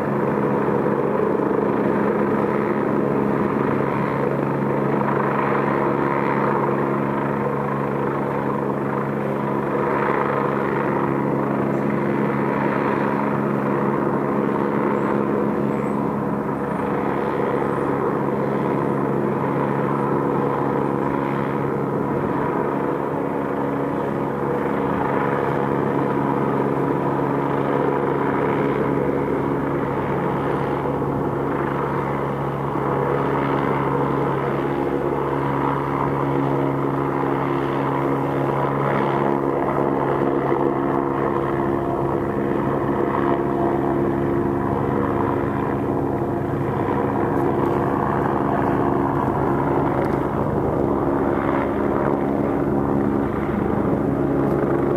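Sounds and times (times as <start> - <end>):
helicopter flying overhead: 0.0 - 54.9.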